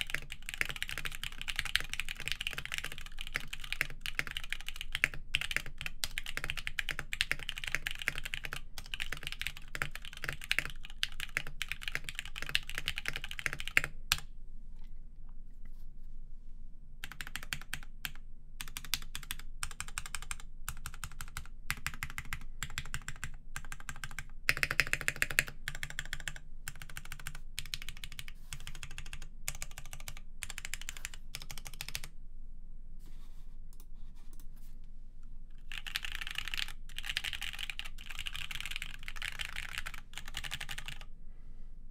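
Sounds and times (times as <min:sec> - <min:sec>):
typing on mechanical keyboard: 0:00.0 - 0:14.2, 0:17.0 - 0:32.1, 0:35.6 - 0:41.1.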